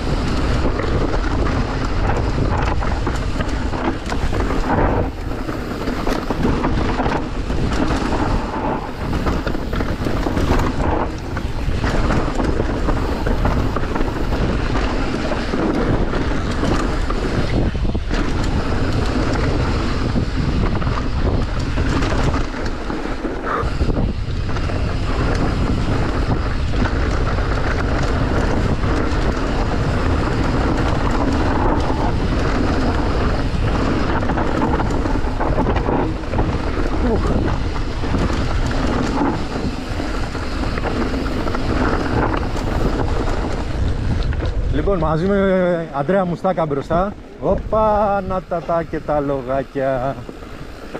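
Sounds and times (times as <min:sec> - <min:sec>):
mountain bike rumbling and rattling: 0:00.0 - 0:50.9
wind buffeting microphone: 0:00.0 - 0:50.9.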